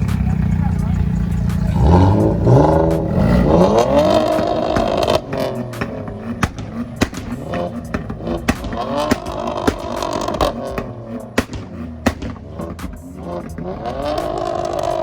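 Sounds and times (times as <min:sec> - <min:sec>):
car engine revving: 0:00.0 - 0:15.0
sharp exhaust pops: 0:00.0 - 0:15.0.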